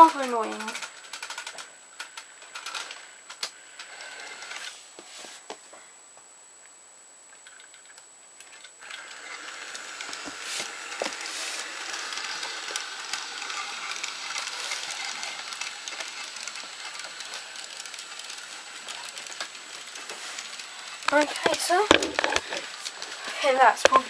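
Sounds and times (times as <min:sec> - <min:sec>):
wheels clicking on plastic track: 0:00.0 - 0:04.8, 0:07.4 - 0:24.0
toy train motor whirring: 0:00.0 - 0:05.2, 0:07.4 - 0:24.0.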